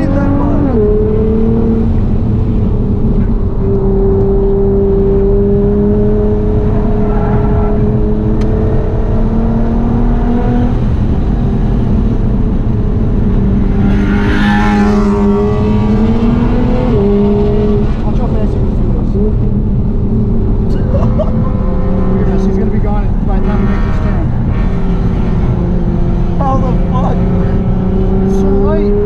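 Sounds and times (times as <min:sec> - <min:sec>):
car engine under load: 0:00.0 - 0:29.0.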